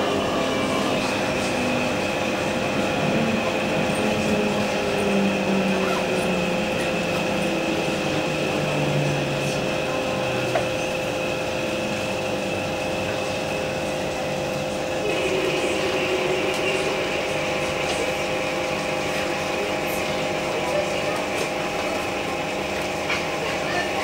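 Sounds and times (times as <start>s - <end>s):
steady hum: 0.0s - 20.5s
train running tones slowing: 0.0s - 24.0s.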